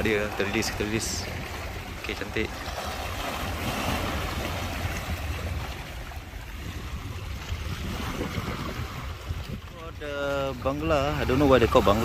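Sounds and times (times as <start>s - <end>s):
waves splashing over rocks: 0.0s - 12.0s
wind rumble on microphone: 0.0s - 12.0s.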